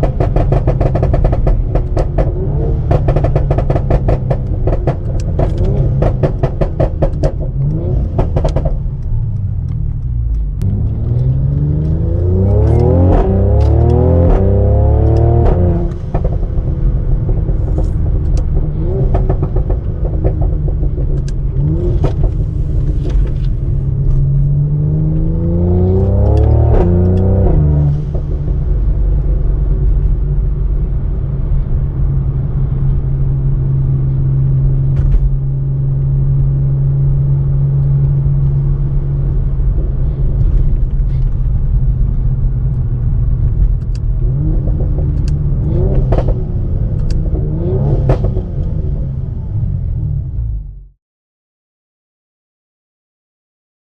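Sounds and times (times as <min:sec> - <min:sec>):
exhaust crackles: 0:00.0 - 0:50.8
car engine and exhaust: 0:00.0 - 0:51.0.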